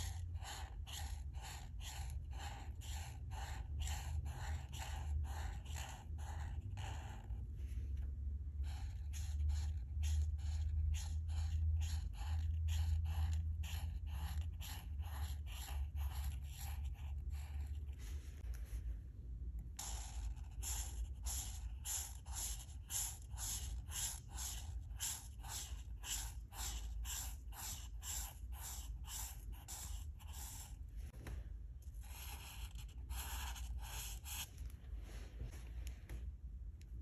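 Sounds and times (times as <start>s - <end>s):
marker rubbing across paper: 0.0s - 7.8s, 8.5s - 18.8s, 19.8s - 30.9s, 31.9s - 34.7s.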